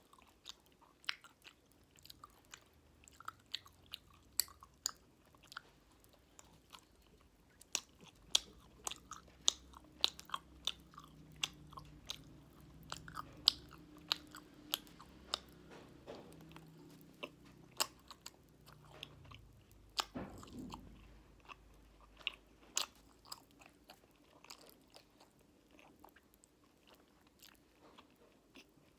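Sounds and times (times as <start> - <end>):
chewing with mouth clicks: 0.0 - 28.9.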